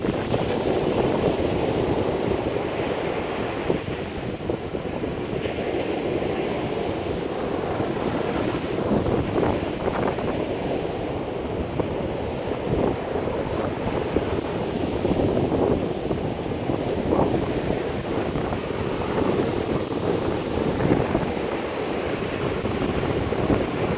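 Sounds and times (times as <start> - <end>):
heavy surf breaking: 0.0 - 23.9
strong wind on microphone: 0.0 - 23.9.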